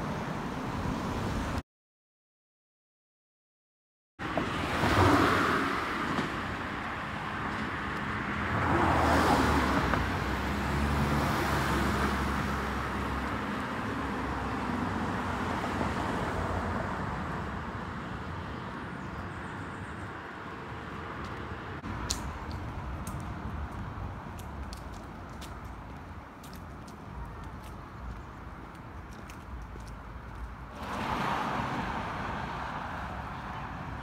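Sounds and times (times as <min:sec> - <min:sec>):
cars passing: 0:00.0 - 0:01.6, 0:04.2 - 0:34.0
distant traffic hum: 0:04.2 - 0:34.0.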